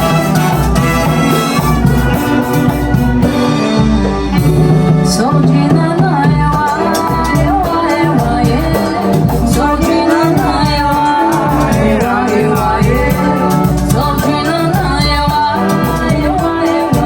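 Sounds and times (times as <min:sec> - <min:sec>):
wind band playing: 0:00.0 - 0:05.6, 0:08.7 - 0:17.0.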